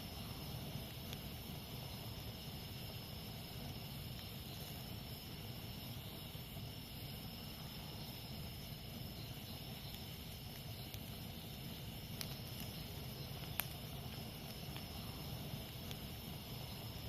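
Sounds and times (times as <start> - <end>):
campfire crackling: 0.0 - 17.0
insects chirring: 0.0 - 17.0.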